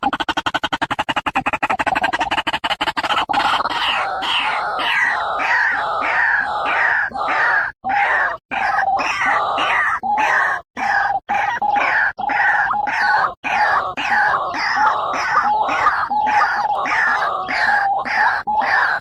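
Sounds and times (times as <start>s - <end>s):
bird harsh croaking calls: 0.0s - 19.0s.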